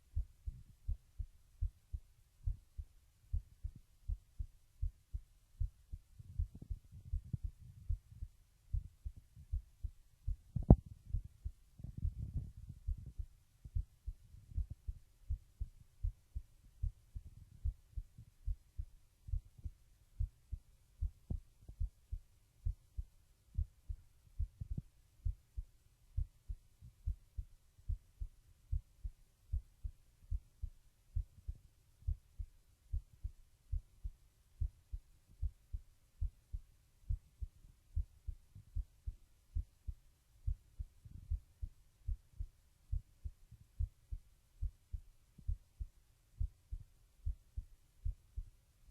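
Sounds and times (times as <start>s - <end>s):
heartbeat thumps: 0.0s - 48.5s.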